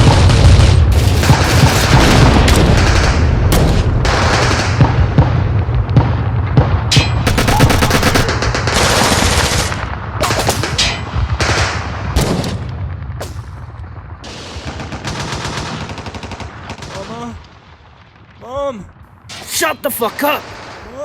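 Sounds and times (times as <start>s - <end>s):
machine-gun fire and gunshots: 0.0s - 18.3s, 19.3s - 21.0s.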